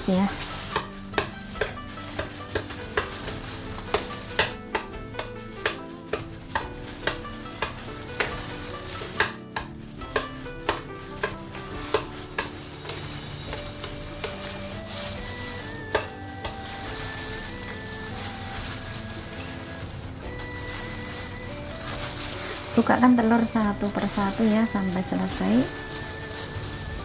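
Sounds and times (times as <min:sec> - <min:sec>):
eggshells cracking: 0:00.0 - 0:27.0
plastic gloves crinkling: 0:00.0 - 0:27.0.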